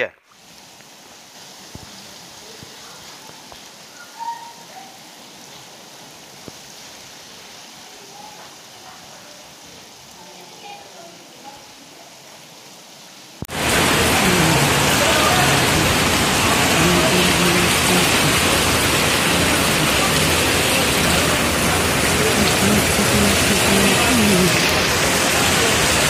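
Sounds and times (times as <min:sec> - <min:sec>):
heavy rain pouring: 0:00.4 - 0:26.0.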